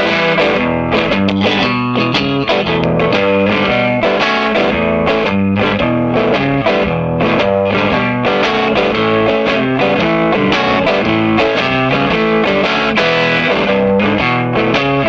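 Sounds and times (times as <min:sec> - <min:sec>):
overdriven electric guitar playing: 0:00.0 - 0:15.0.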